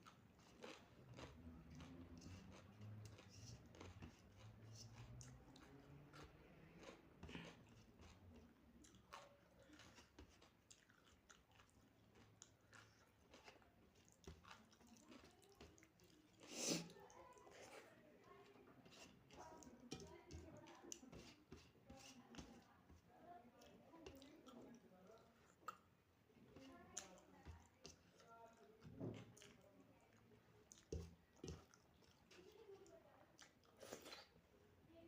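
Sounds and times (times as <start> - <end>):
person chewing food: 0.0 - 22.8, 26.6 - 34.4.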